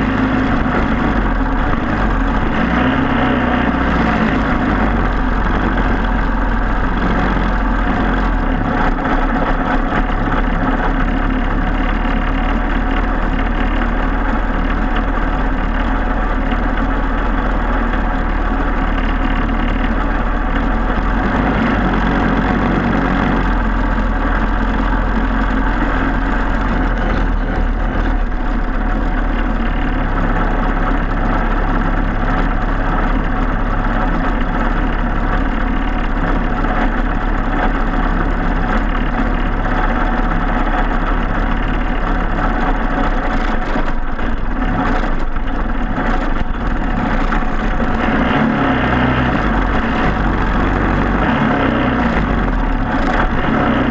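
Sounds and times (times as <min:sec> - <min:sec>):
kart engine running: 0:00.0 - 0:53.9.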